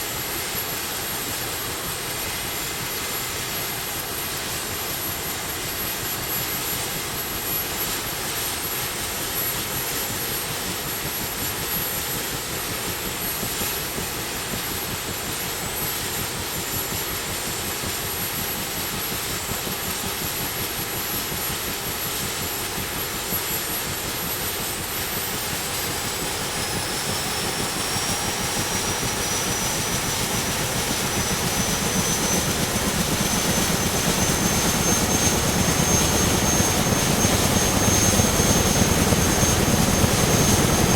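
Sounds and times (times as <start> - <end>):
helicopter engines and rotors: 0.0 - 40.9
high turbine whine: 7.2 - 40.9.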